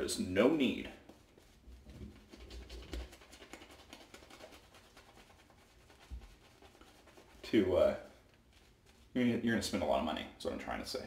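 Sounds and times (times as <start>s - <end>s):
shaving brush swishing on stubble: 0.0s - 10.0s.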